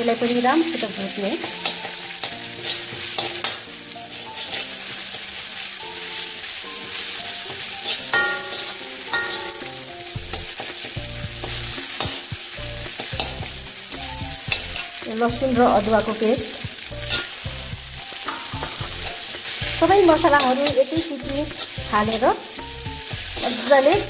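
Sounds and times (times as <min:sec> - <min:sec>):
onions and spices sizzling in oil: 0:00.0 - 0:24.0
spoon scraping a pan: 0:01.4 - 0:03.6, 0:04.2 - 0:05.2, 0:07.0 - 0:12.3, 0:12.9 - 0:24.0.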